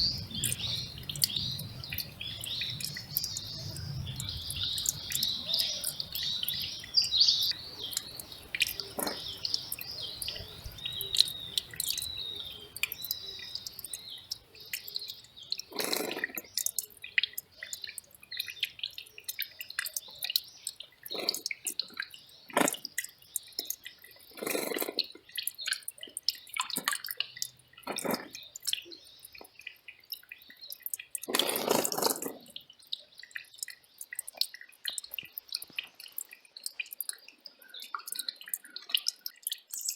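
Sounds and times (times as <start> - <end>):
small birds chirping: 0.0 - 39.9
stream trickling over rocks: 0.0 - 39.9
water gurgling splashes: 0.0 - 39.9.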